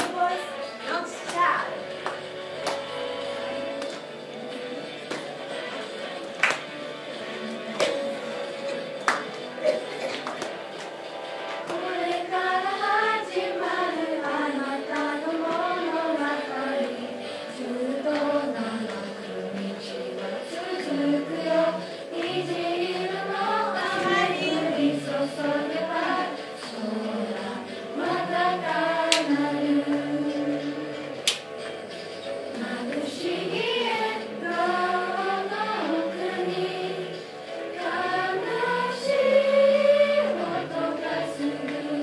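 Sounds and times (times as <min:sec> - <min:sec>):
girls choir singing: 0:00.0 - 0:04.1, 0:05.1 - 0:42.0.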